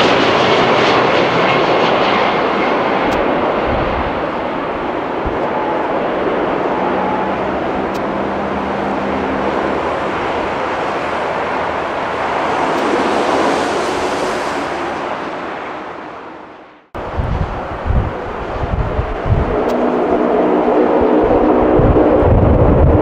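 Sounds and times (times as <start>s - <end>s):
jet engines roaring past: 0.0s - 23.0s.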